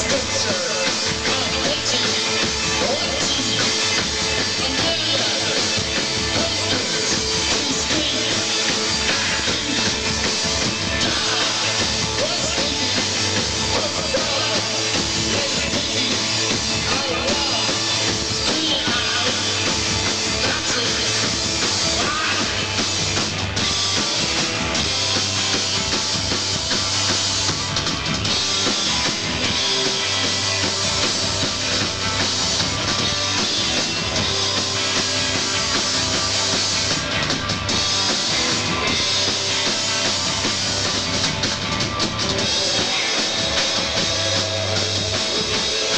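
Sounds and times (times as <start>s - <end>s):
drum kit: 0.0s - 45.9s
rock band playing live: 0.0s - 45.9s.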